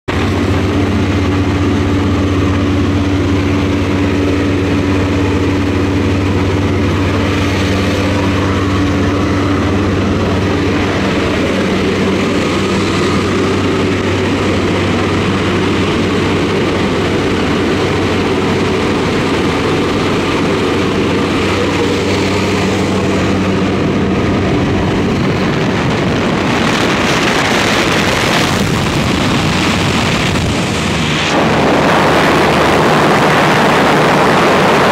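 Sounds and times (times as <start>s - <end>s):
loud rushing noise: 0.1s - 34.9s
plane engines droning in cabin: 0.1s - 34.9s.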